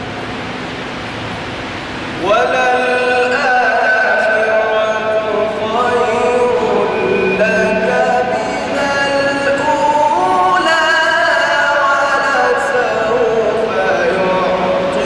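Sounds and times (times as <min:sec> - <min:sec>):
man reciting melodically: 0:02.1 - 0:15.0.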